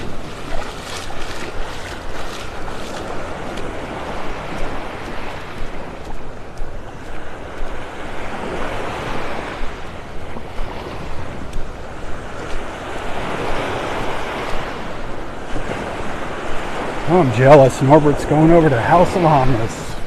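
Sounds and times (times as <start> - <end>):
waves washing on sand: 0.0 - 20.0
wind buffeting microphone: 0.0 - 20.0.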